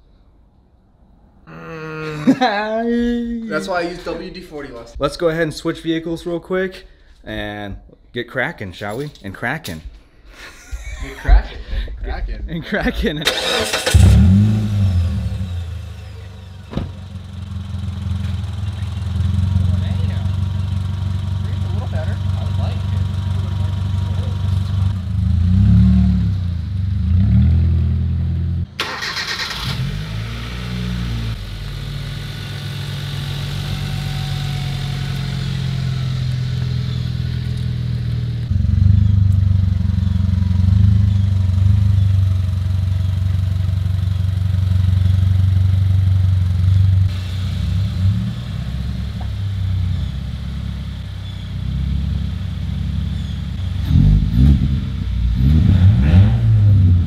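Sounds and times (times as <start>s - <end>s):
car engines rumbling: 10.8s - 57.0s.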